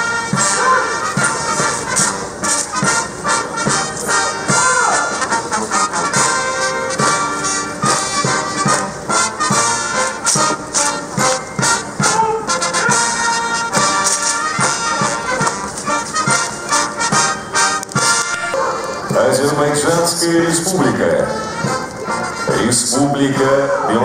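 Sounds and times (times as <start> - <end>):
military band playing: 0.0 - 24.0.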